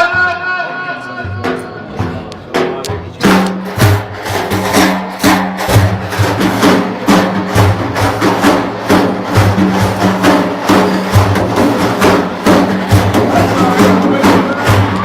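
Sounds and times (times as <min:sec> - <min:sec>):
hand drums playing: 0:01.2 - 0:15.0.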